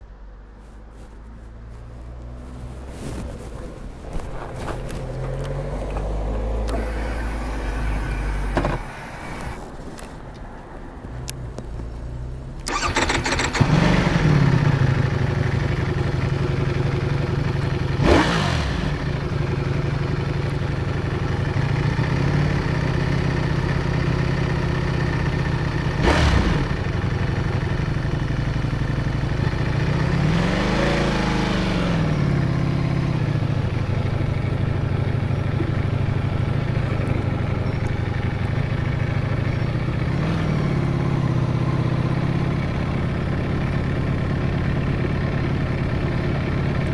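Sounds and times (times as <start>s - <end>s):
motorcycle engine starting and idling: 0.6s - 46.9s.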